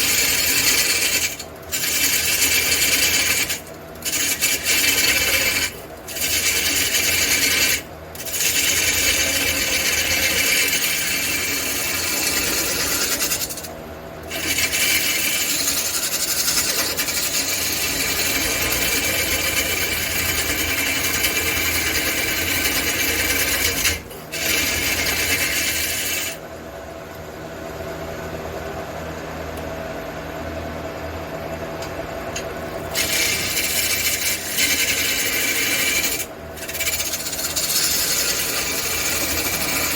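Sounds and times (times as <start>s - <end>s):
turning tool scraping wood: 0.0s - 26.4s, 32.7s - 39.9s
wood lathe spinning: 0.0s - 26.4s, 32.7s - 39.9s.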